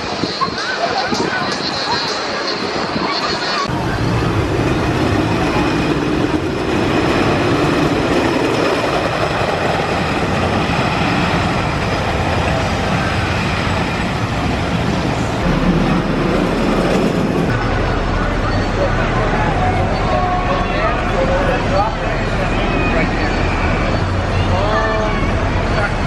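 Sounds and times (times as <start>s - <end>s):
roller coaster rumbling on wooden track: 0.0s - 26.0s.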